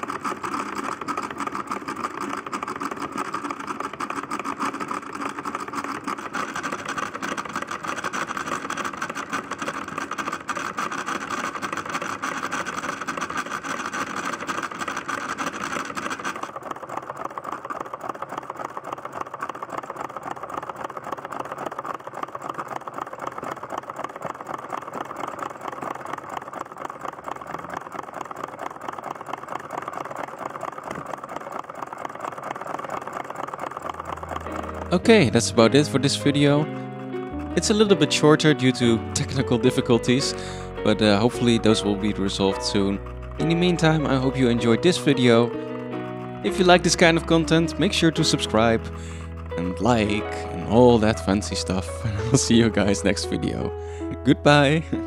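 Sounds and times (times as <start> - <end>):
solenoid engine ticking: 0.0 - 55.0.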